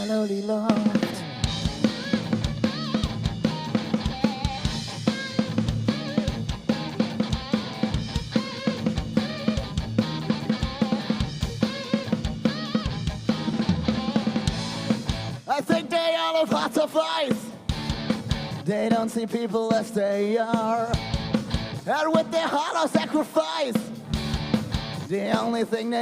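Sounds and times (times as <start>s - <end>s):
live rock band playing: 0.0s - 26.0s
bass drum and snare beat: 0.8s - 15.4s, 17.4s - 23.2s, 23.8s - 25.6s.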